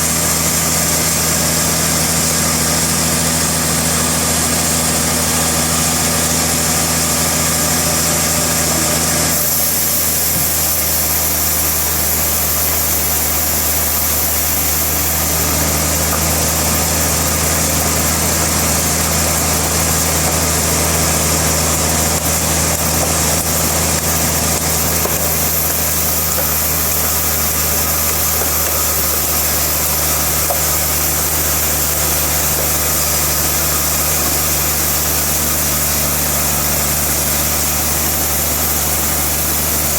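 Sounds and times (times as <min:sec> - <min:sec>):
higher machine hum: 0:00.0 - 0:39.9
sawmill machinery hum: 0:00.0 - 0:39.9.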